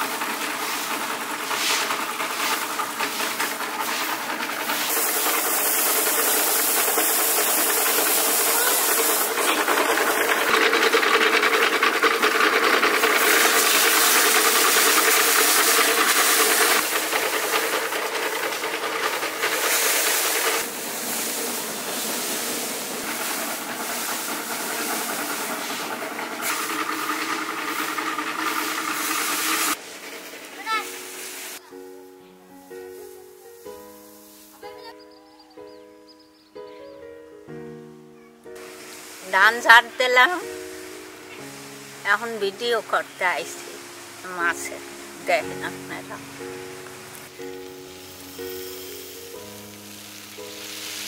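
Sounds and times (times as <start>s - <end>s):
thresher drum rattling rush: 0.0s - 31.7s, 38.6s - 51.0s.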